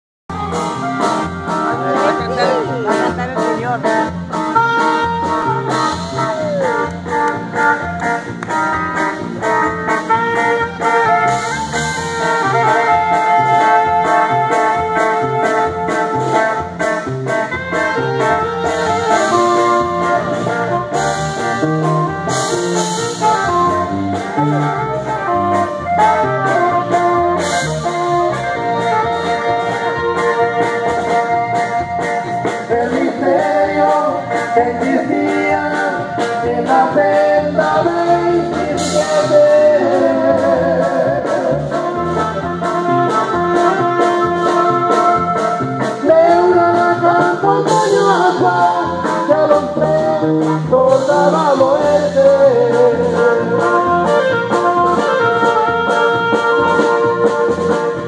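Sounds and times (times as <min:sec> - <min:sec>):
button accordion: 0:00.3 - 0:06.1, 0:06.8 - 0:38.0, 0:41.7 - 0:51.5, 0:52.3 - 0:58.0
drum kit beat: 0:00.3 - 0:58.0
saxophone melody: 0:00.3 - 0:58.0
strummed guitar: 0:00.3 - 0:58.0.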